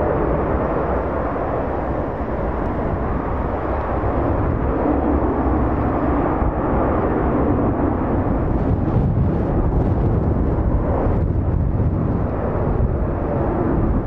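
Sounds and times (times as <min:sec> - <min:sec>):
distant jet engines: 0:00.0 - 0:14.0
wind buffeting microphone: 0:00.0 - 0:14.0.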